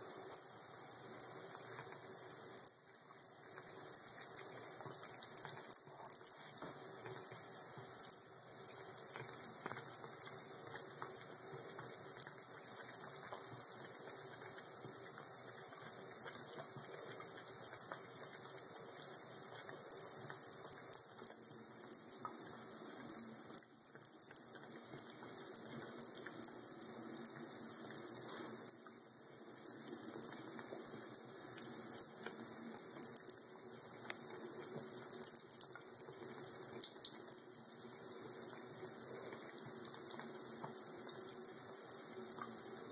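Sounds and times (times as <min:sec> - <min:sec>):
water splashes and drips: 0:01.2 - 0:42.9.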